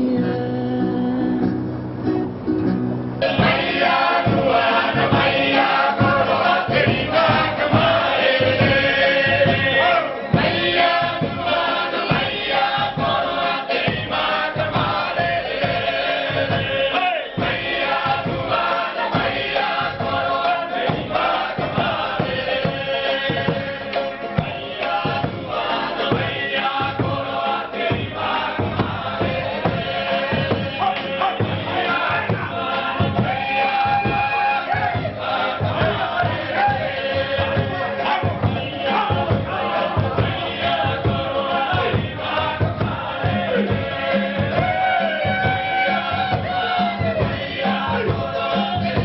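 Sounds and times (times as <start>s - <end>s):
group singing over steady beat: 3.2s - 49.0s.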